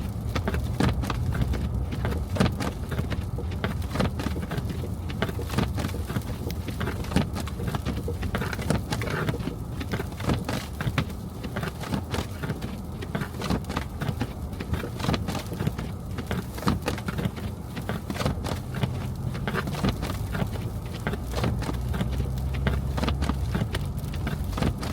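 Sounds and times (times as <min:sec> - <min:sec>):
car road rumble: 0:00.0 - 0:24.9
snow crackling and patter: 0:00.0 - 0:24.9.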